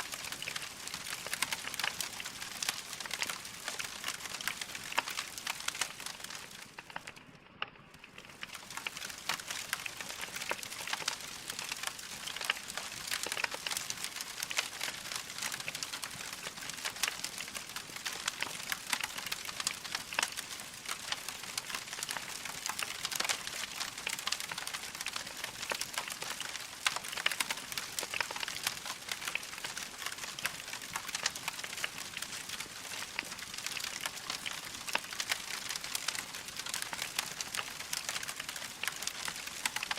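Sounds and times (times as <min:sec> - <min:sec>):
log fire crackling: 0:00.0 - 0:07.2, 0:07.9 - 0:39.9.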